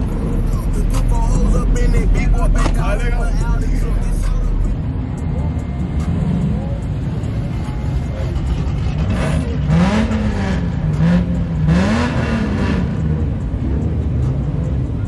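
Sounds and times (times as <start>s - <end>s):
car engine revving: 0.0s - 15.0s
car engine rumbling idle: 0.0s - 15.0s.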